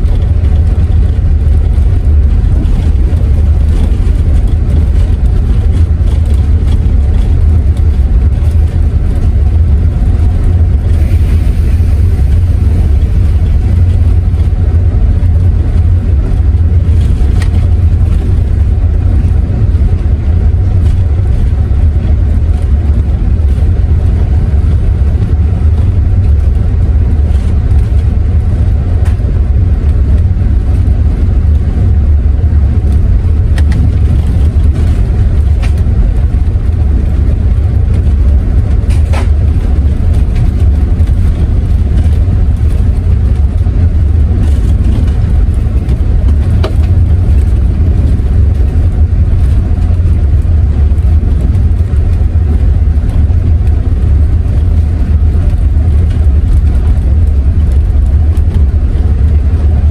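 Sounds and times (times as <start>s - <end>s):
coach engine and road noise drone: 0.0s - 59.9s.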